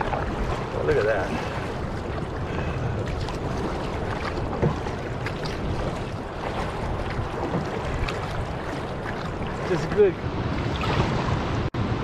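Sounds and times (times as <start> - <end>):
water splashing around canoe: 0.0 - 11.7.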